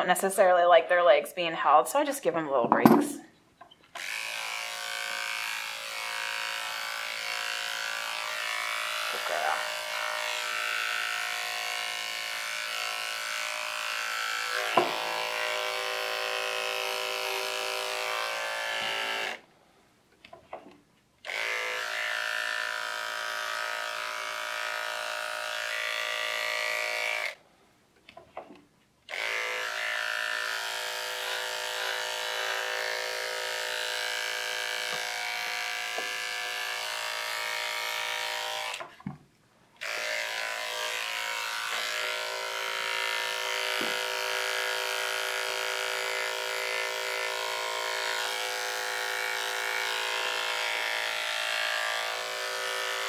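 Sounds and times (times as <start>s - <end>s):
electric clipper humming: 4.0s - 19.4s, 21.2s - 27.4s, 29.1s - 38.9s, 39.8s - 53.0s.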